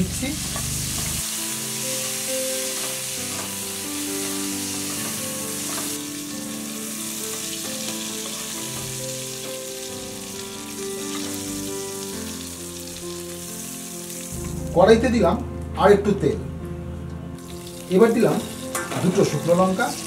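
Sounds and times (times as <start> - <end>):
prawns sizzling in hot oil: 0.0 - 14.6, 17.4 - 20.0
background music: 0.0 - 20.0.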